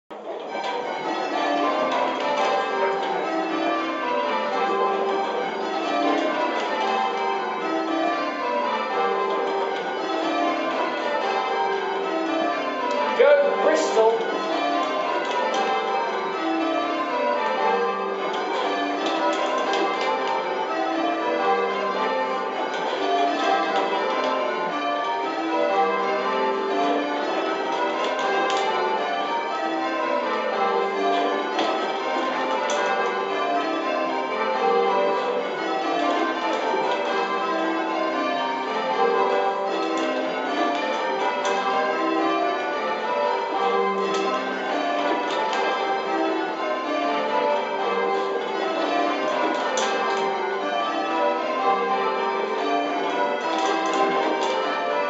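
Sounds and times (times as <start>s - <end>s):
church bells ringing: 0.1s - 55.0s.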